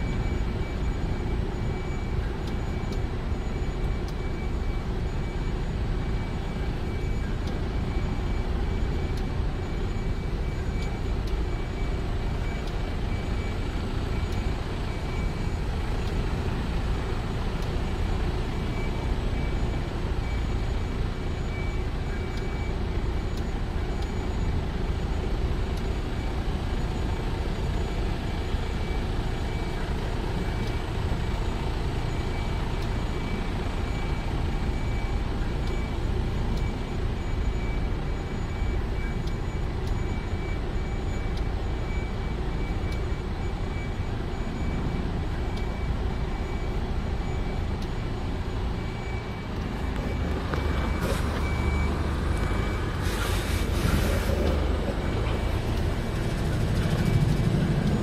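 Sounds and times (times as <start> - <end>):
faint high beep: 0.0 - 58.0
truck engine and road rumble: 0.0 - 58.0.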